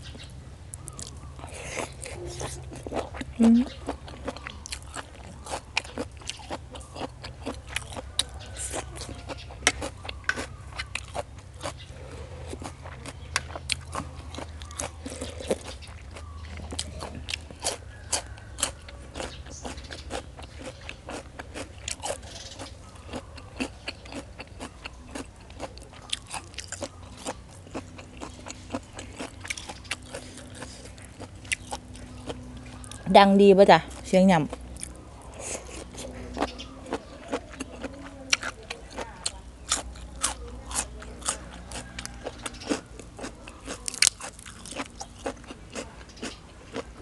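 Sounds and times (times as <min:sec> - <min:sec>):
close crunchy chewing: 0:00.0 - 0:47.0
wet chewing sounds: 0:00.1 - 0:47.0.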